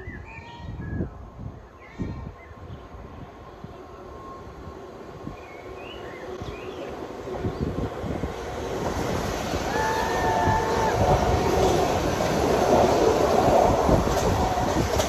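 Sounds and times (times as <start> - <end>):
train approaching: 1.0 - 15.0.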